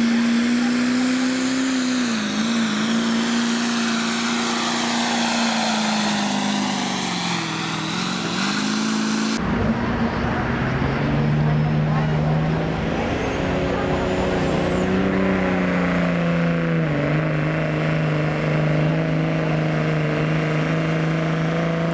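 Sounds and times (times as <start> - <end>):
diesel truck engine under load: 0.0 - 21.9.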